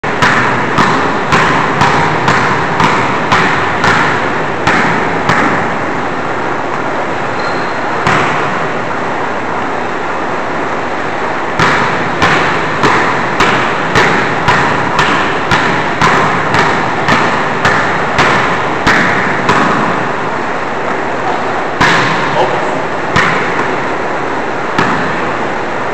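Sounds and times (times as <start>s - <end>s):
basketballs bouncing on hardwood floor: 0.0s - 6.0s, 6.7s - 8.8s, 11.5s - 23.9s, 24.7s - 25.4s.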